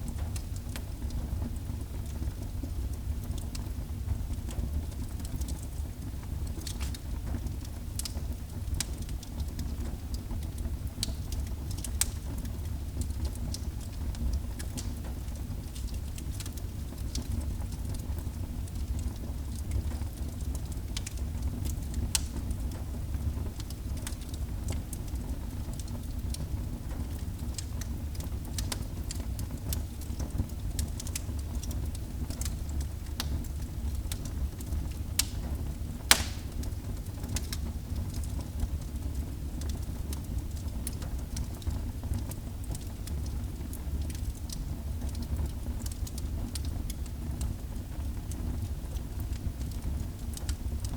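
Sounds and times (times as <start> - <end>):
wood fire crackling in fireplace: 0.0 - 50.9.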